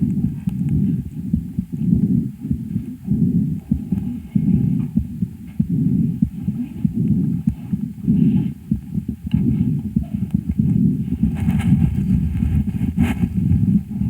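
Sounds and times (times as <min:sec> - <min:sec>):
breath sounds through stethoscope: 0:00.0 - 0:14.0.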